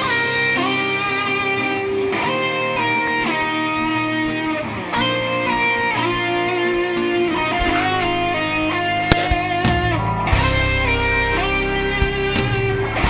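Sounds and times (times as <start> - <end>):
electric guitar background music: 0.0 - 13.0.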